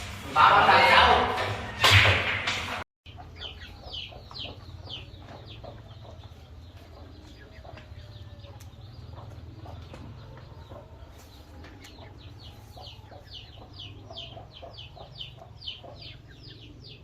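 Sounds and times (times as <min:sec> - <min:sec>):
chickens clucking: 0:03.1 - 0:17.0.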